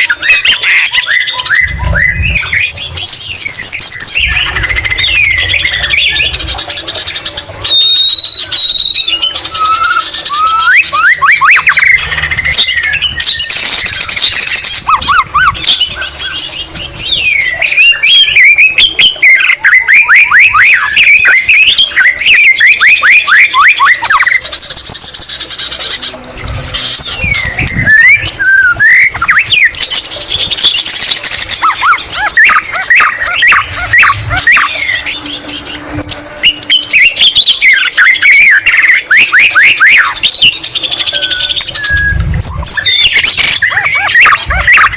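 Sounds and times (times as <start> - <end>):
songbird singing trills and whistles: 0.0 - 44.9.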